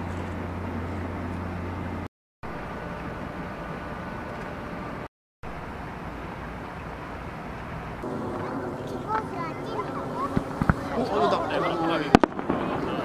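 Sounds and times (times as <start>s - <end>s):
distant engines across water: 0.0s - 13.0s.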